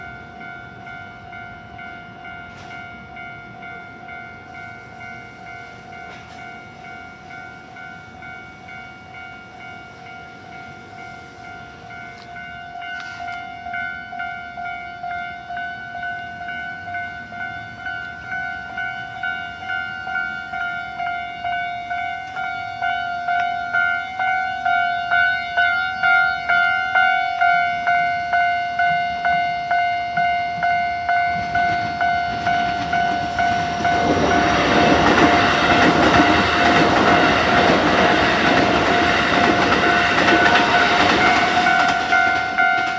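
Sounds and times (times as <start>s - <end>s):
level-crossing alarm bell: 0.0s - 42.9s.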